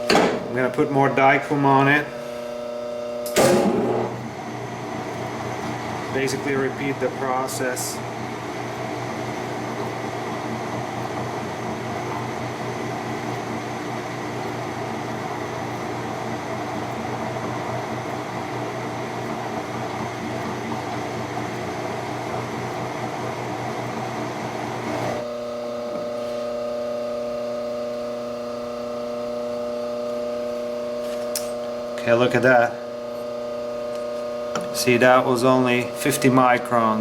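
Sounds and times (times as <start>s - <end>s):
metal lathe running: 0.0s - 37.0s.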